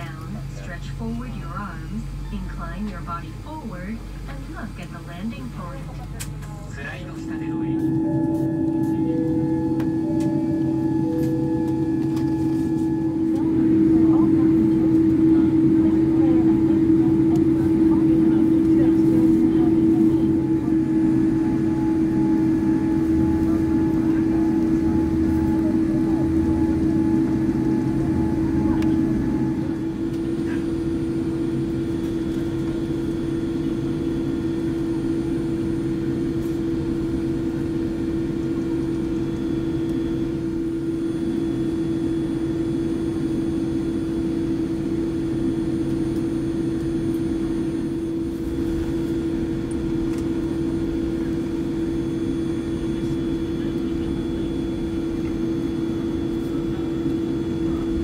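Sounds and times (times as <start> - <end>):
airliner cabin noise: 0.0 - 58.0.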